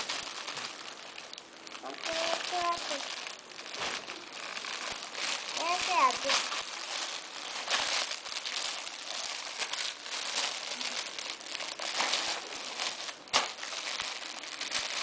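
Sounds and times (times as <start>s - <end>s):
metallic gift wrap crinkling: 0.0s - 15.0s.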